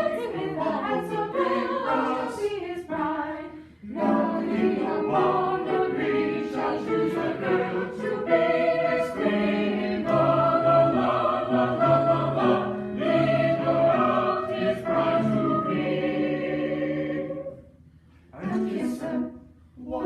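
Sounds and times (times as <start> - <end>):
choir singing sustained chords: 0.0 - 20.0.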